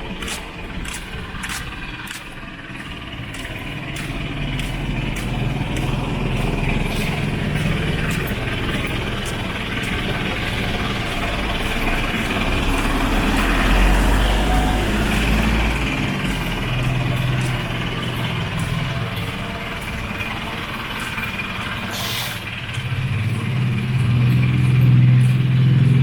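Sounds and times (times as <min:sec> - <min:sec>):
small vehicle engine running: 0:00.0 - 0:26.0.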